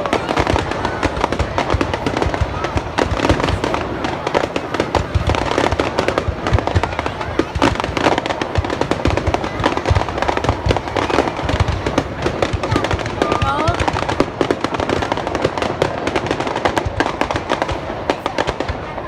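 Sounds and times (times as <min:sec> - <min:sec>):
deep fireworks booms: 0:00.0 - 0:19.0
fireworks bangs and crackles: 0:00.0 - 0:19.0.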